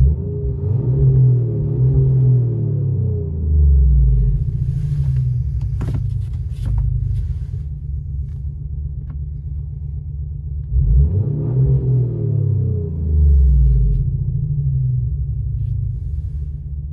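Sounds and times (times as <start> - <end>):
car exhaust drone inside cabin: 0.0 - 16.9.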